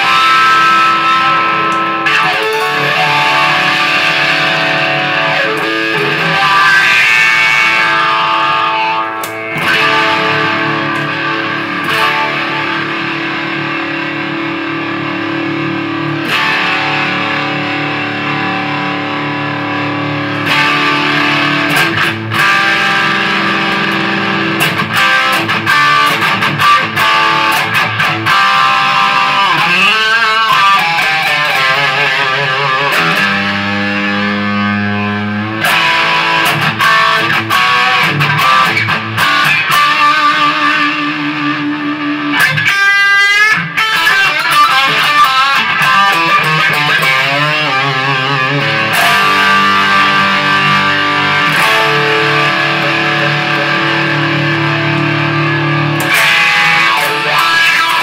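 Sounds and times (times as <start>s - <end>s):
electric guitar playing: 0.0s - 58.0s.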